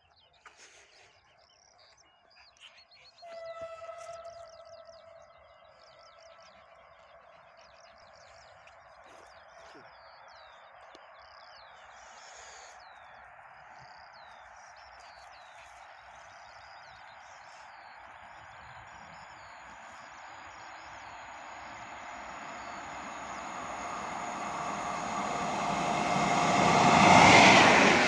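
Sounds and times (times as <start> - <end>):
small birds chirping: 4.0 - 28.0.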